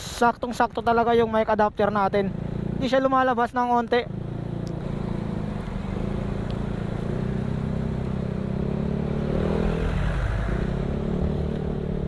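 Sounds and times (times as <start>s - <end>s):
motorcycle engine running: 2.1s - 12.0s.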